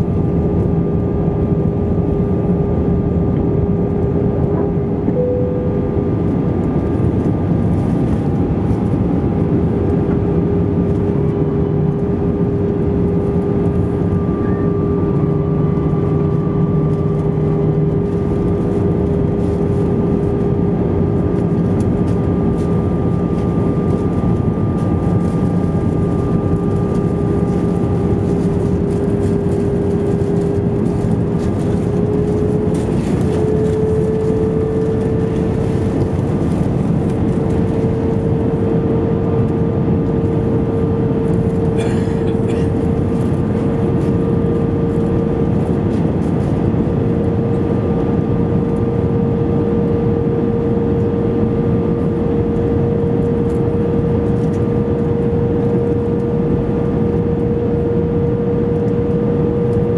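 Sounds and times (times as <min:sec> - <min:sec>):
aircraft cabin engine roar: 0:00.0 - 0:59.9
steady hum: 0:00.0 - 0:59.9.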